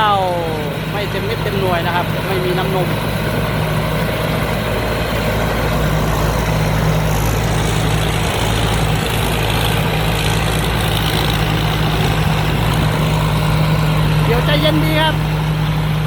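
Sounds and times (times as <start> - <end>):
diesel engine droning: 0.0 - 16.0
threshing machinery: 0.0 - 16.0.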